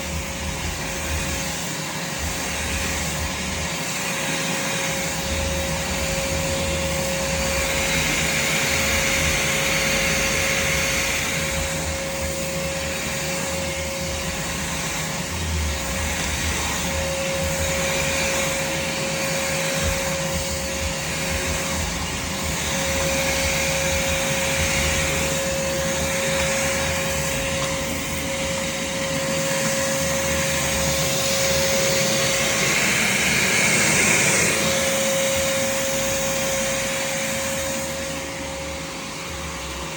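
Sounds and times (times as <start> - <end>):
suction air rushing: 0.0 - 39.8
shop vac motor whine: 0.0 - 39.9.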